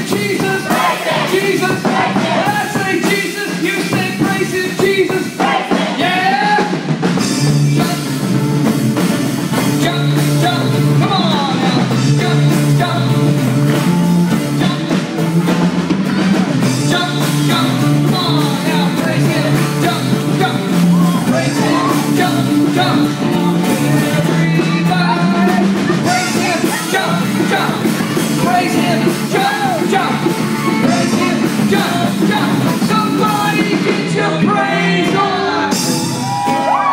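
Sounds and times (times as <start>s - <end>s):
people singing: 0.0s - 6.8s, 9.8s - 13.2s, 16.1s - 36.0s
band playing: 0.0s - 36.9s
drum kit: 0.0s - 36.9s.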